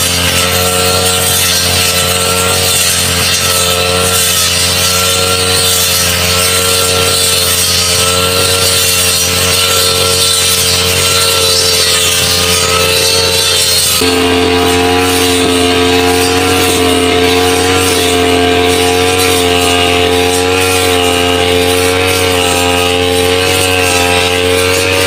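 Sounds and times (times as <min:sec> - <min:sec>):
brush cutter engine running: 0:00.0 - 0:25.0
cutting head mowing grass: 0:00.0 - 0:25.0.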